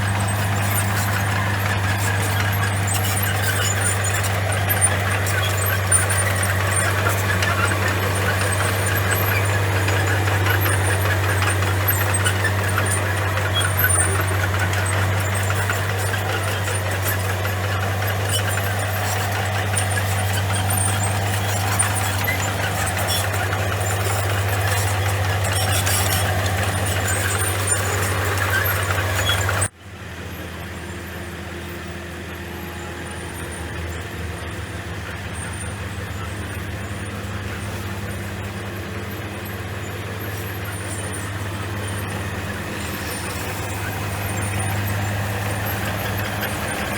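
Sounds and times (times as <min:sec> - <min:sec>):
bulldozer diesel engine: 0:00.0 - 0:46.9.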